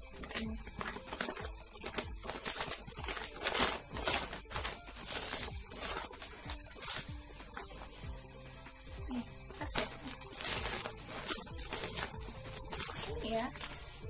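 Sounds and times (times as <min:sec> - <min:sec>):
plastic bag crinkling: 0:00.0 - 0:07.9, 0:09.7 - 0:14.0
wrapping paper tearing: 0:00.0 - 0:08.0, 0:09.6 - 0:14.0.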